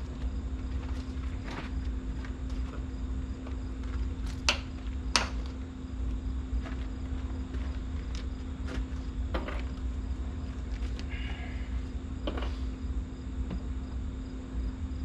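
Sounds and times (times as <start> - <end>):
insects chirping: 0.0 - 15.0
steady low hum: 0.0 - 15.0.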